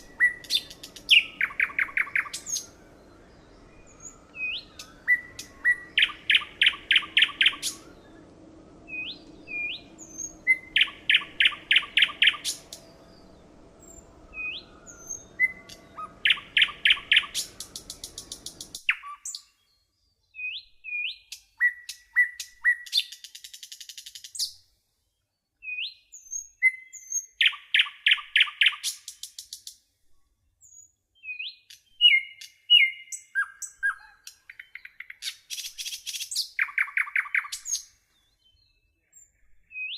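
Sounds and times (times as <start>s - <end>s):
bird singing and chirping: 0.0s - 24.6s, 25.6s - 29.6s, 30.7s - 39.9s.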